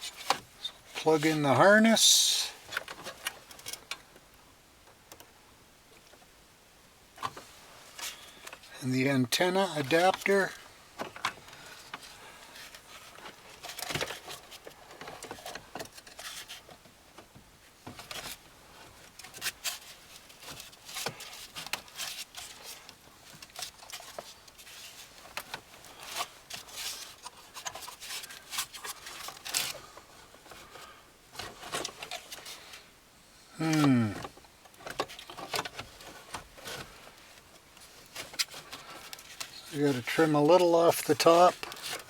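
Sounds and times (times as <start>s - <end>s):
hands handling car stereo parts: 0.0s - 2.0s, 9.3s - 32.8s, 33.6s - 42.0s.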